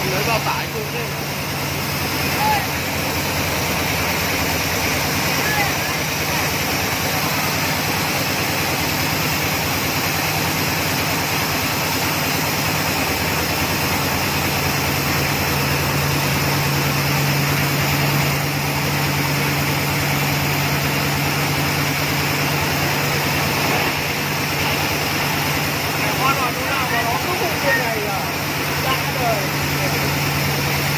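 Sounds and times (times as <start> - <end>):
drilling rig engine humming: 0.0 - 30.9.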